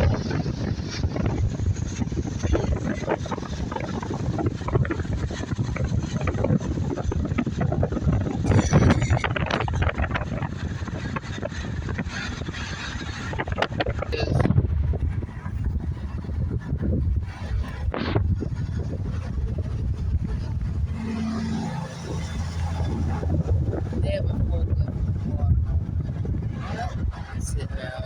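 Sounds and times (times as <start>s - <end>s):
continuous low rumble: 0.0s - 28.0s
wind buffeting microphone: 0.0s - 28.0s.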